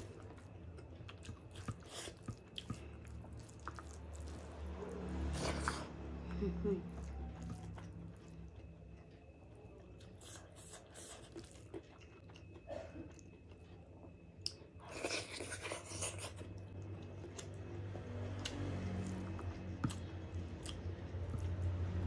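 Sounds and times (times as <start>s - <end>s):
moist chewing: 0.0s - 6.0s, 6.8s - 22.0s.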